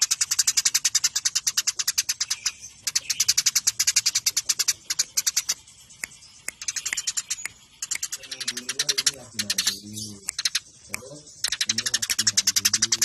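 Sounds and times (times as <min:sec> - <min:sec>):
sparrows chirping rapidly: 0:00.0 - 0:13.0.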